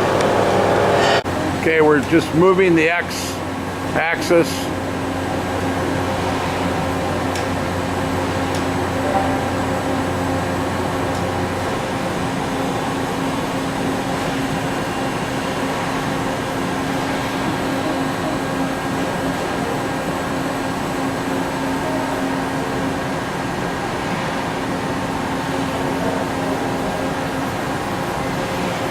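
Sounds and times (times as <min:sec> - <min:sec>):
boring mill mechanical hum: 0:00.0 - 0:28.9.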